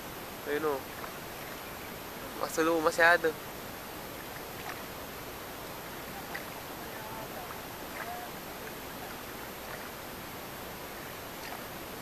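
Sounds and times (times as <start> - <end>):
paddle pulling through water: 0.0 - 12.0.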